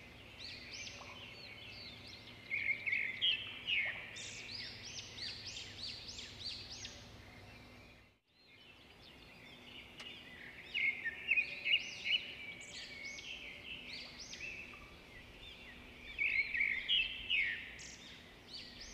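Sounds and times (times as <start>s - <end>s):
birds chirping: 0.0s - 18.9s.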